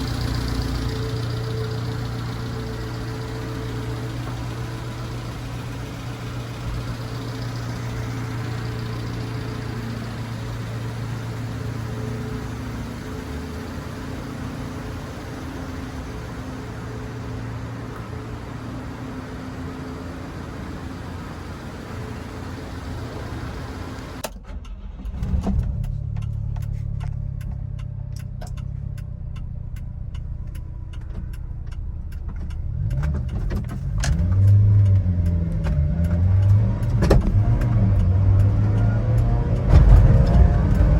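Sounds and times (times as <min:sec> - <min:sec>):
small truck engine idling and revving: 0:00.0 - 0:40.9.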